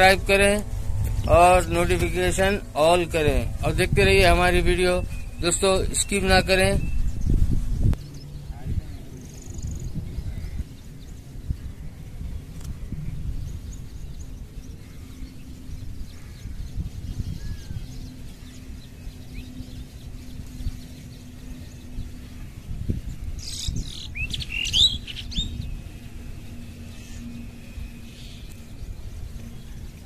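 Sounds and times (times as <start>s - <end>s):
high sweeping bird calls: 0.0s - 30.0s
small birds chirping: 0.0s - 30.0s
steady low rumble: 0.0s - 30.0s.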